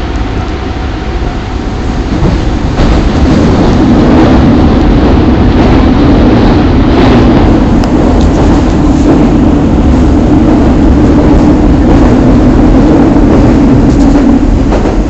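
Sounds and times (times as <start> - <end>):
train wheel and traction noise: 0.0 - 15.0.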